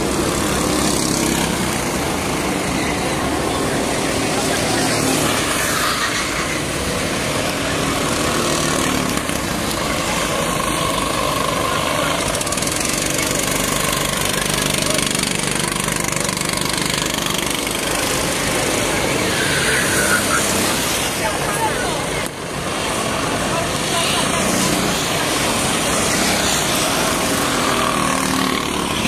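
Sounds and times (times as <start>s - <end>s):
go-kart engines running: 0.0s - 29.0s.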